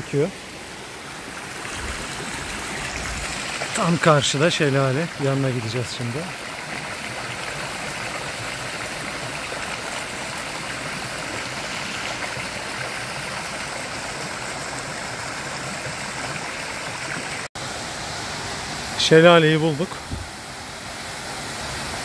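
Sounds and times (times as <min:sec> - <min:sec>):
waterfall rushing over rock: 0:00.0 - 0:22.0.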